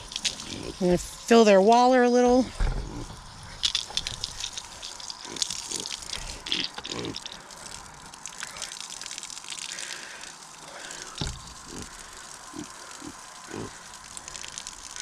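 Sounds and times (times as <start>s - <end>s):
hose water splashing into mud: 0.0s - 15.0s.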